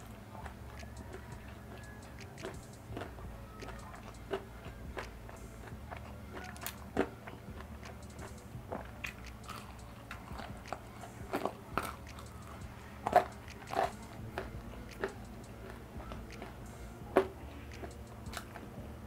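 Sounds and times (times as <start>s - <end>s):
crunching fried chicken: 0.4s - 18.8s.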